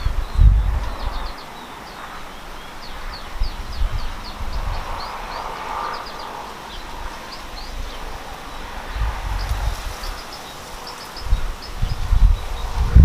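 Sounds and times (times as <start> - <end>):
bird chirping: 0.0 - 13.0
low rumbles: 0.0 - 13.0.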